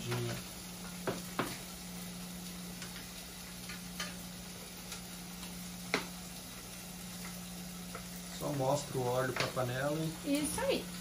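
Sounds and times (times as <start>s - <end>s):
bacon frying: 0.0s - 11.0s.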